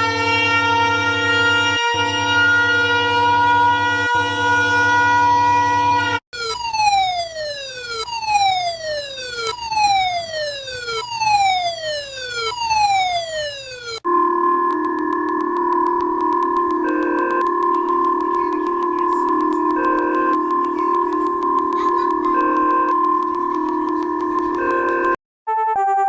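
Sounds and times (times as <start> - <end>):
chord-like alarm tone: 0.0 - 25.2
falling siren-like tone: 0.0 - 25.2
steady buzzy alarm tone: 0.0 - 25.2.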